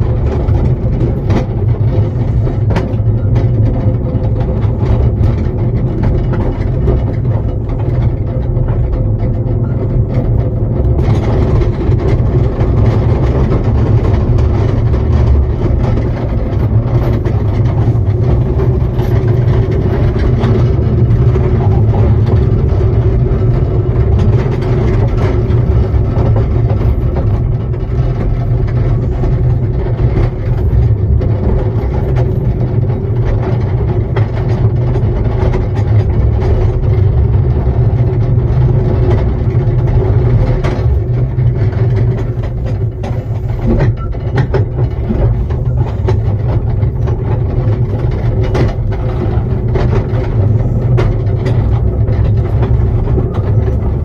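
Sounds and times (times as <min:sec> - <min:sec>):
miniature train rumbling on rails: 0:00.0 - 0:54.0.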